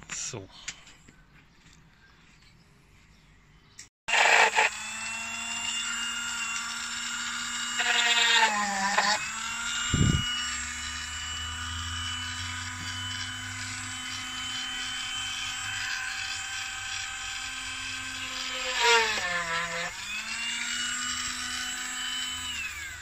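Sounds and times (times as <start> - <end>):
rotary tool drilling plastic: 4.1 - 23.0.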